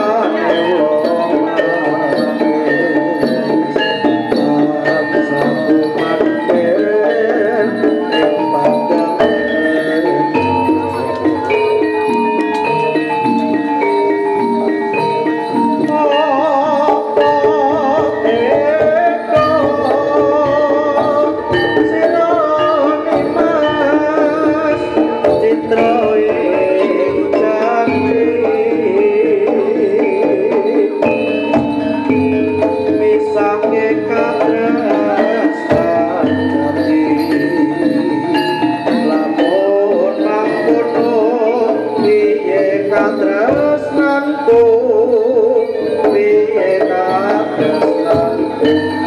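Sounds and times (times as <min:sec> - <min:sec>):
hand drumming: 0:00.0 - 0:49.0
ornamented melody line: 0:00.0 - 0:49.0.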